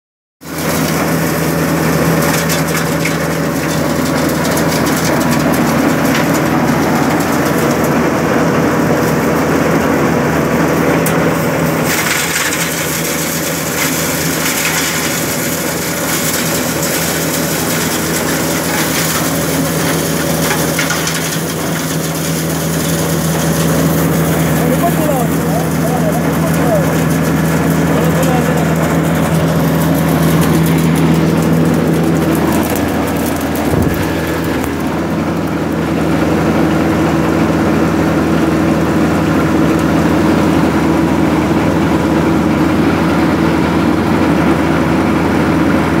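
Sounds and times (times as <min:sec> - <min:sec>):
shredder grinding plant material: 0:00.4 - 0:46.0.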